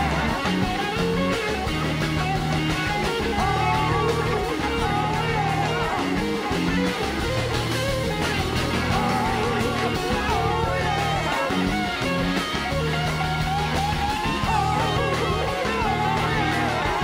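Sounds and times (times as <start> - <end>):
bass notes: 0.0 - 17.0
drums: 0.0 - 17.0
electric guitar solo: 0.0 - 17.0.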